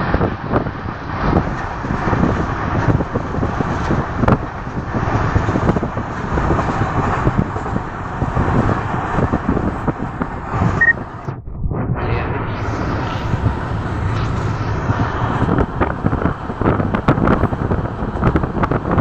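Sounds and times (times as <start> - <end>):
vehicle interior rumble: 0.0 - 19.0.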